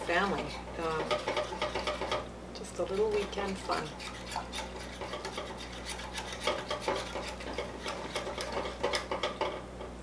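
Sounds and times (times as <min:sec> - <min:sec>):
whisk scraping a saucepan: 0:00.0 - 0:09.6.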